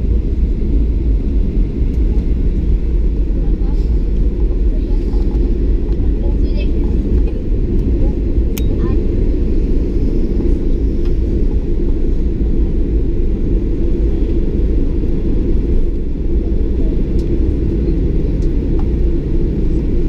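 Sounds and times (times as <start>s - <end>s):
jet rumble inside cabin: 0.0s - 20.0s.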